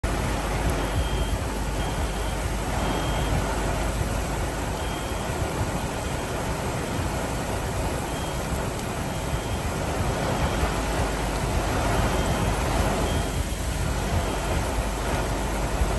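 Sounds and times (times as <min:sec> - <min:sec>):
heavy rain pouring: 0:00.0 - 0:15.9.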